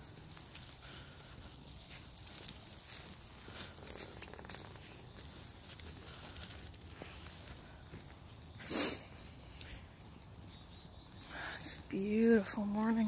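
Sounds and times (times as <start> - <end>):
chain clinking: 0.0 - 8.0, 9.5 - 13.0
footsteps on muddy trail: 0.0 - 12.8.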